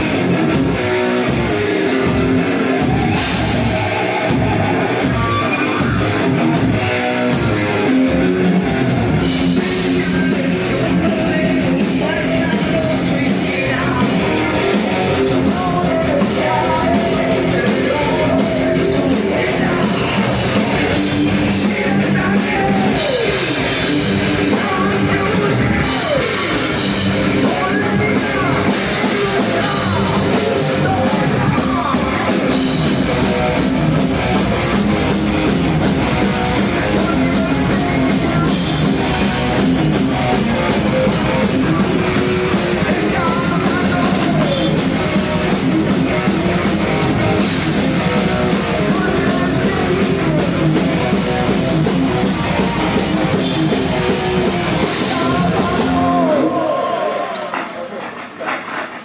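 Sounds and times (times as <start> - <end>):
bass guitar: 0.0 - 59.0
drums: 0.0 - 59.0
electric guitar: 0.0 - 59.0
person singing: 9.2 - 58.0.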